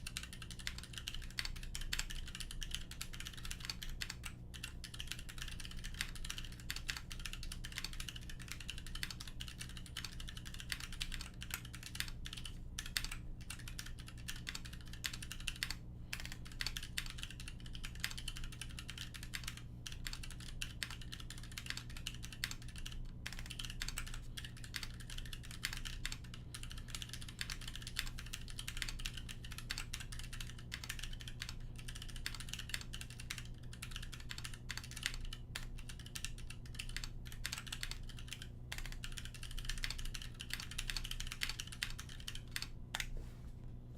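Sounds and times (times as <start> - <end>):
mechanical keyboard typing: 0.0 - 43.1.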